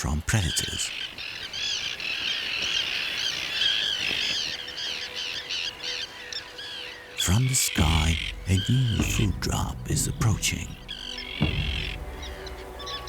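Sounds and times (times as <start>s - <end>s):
terns calling: 0.0s - 13.0s.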